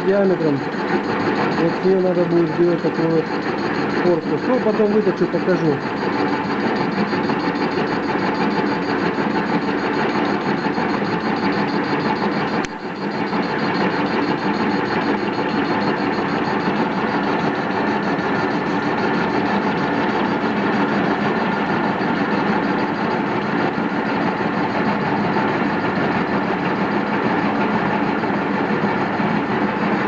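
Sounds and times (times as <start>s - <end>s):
metal lathe cutting steel: 0.0s - 30.0s.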